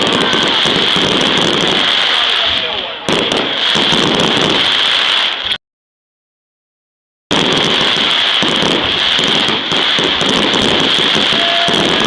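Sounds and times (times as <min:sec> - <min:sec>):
fireworks crackling: 0:00.0 - 0:05.6, 0:07.3 - 0:12.0.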